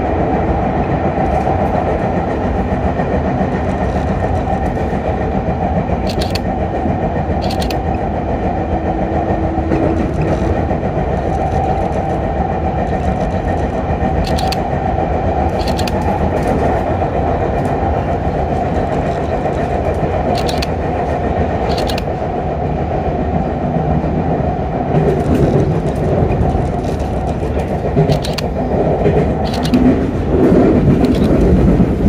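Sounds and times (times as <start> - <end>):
train rolling rumble: 0.0 - 32.0
wheels clacking over rail joints: 1.1 - 22.4, 24.9 - 32.0.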